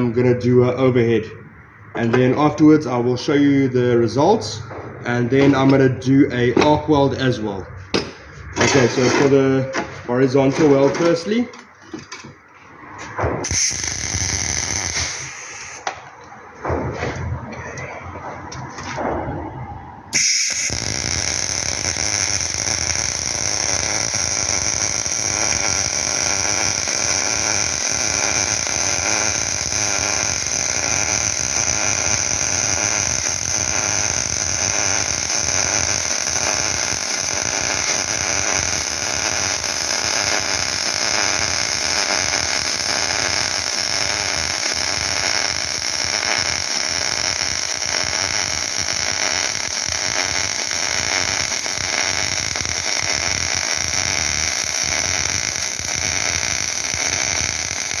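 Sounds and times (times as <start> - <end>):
welding arc crackling: 7.9 - 17.0, 20.0 - 58.0.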